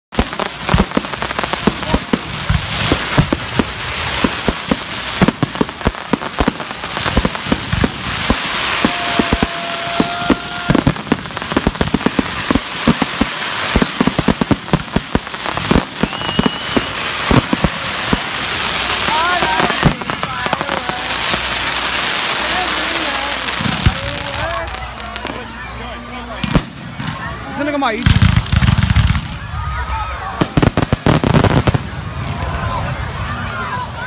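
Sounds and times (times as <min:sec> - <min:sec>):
fireworks bangs and crackling: 0:00.1 - 0:34.0.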